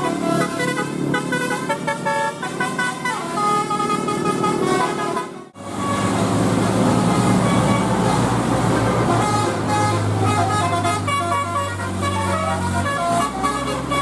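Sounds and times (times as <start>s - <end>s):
bus engine running: 0.0s - 14.0s
multi-tone air horn melody: 0.0s - 14.0s.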